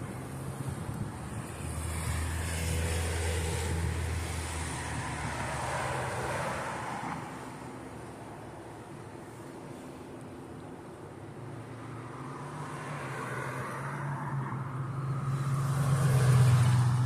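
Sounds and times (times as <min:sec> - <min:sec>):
vehicle passing on road: 0:00.0 - 0:10.3, 0:11.2 - 0:17.0.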